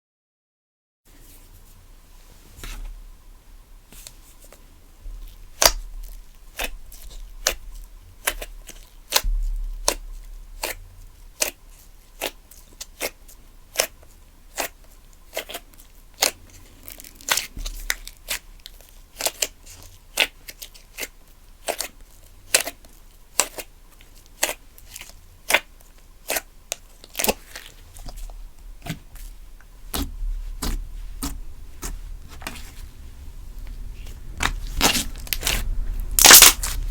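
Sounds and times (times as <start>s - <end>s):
faint steady hum: 1.1s - 36.9s.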